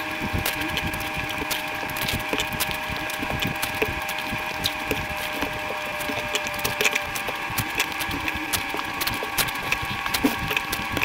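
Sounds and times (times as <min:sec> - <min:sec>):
crisp shells crunching while chewing: 0:00.0 - 0:11.0
steady background hum: 0:00.0 - 0:11.0.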